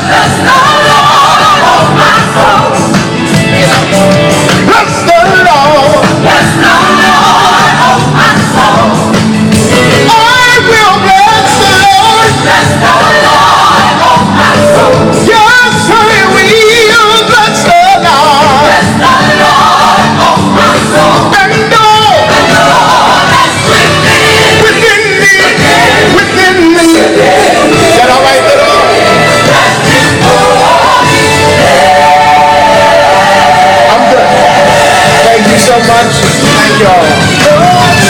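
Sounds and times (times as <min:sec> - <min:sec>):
gospel choir singing: 0:00.0 - 0:38.0
recorded backing track: 0:00.0 - 0:38.0.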